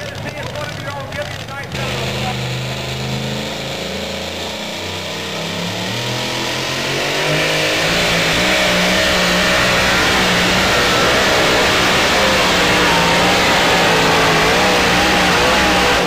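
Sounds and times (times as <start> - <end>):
supercharged engine revving: 0.0 - 16.0.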